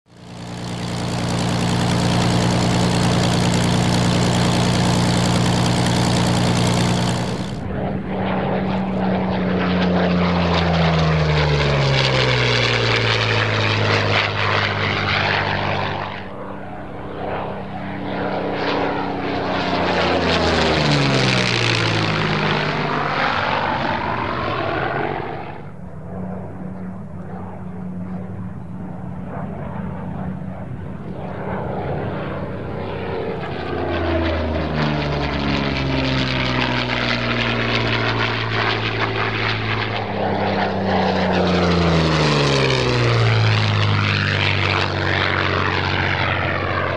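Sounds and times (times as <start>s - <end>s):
propeller plane engine: 0.0s - 46.9s.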